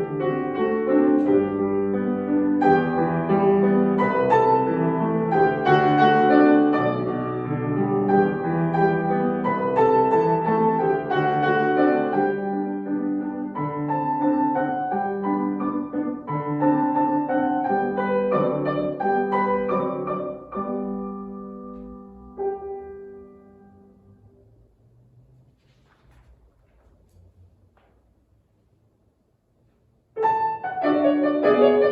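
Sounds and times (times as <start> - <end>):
solo piano classical piece: 0.0 - 31.9.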